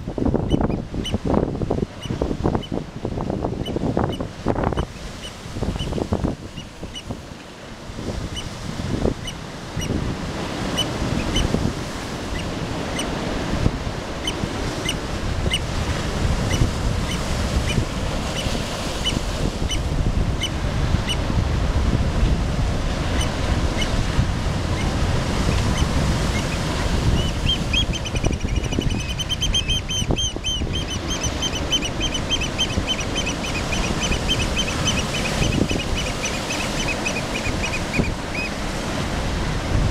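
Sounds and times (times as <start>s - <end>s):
surf breaking on rocky shore: 1.2s - 39.9s.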